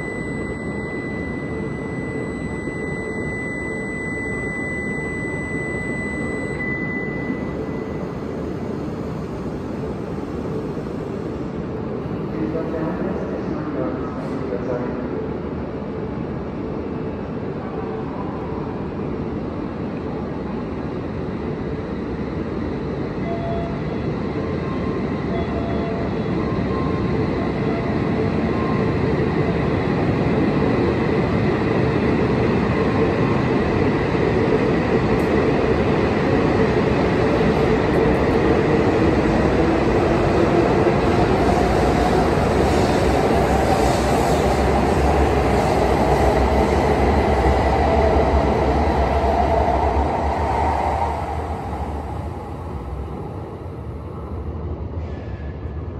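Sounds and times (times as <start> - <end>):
rising train whine: 0.0 - 55.9
train running noise: 6.9 - 55.9.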